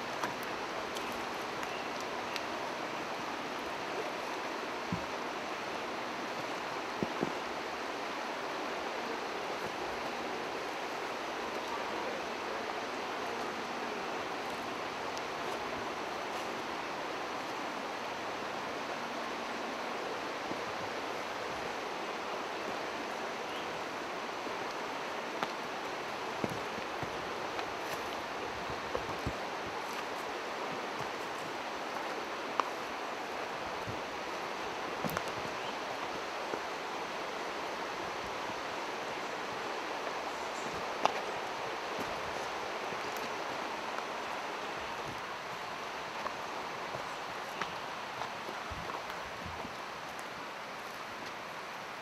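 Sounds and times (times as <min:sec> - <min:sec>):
footsteps on rocky trail: 0:00.0 - 0:18.2, 0:24.4 - 0:52.0
flowing water rushing: 0:00.0 - 0:52.0.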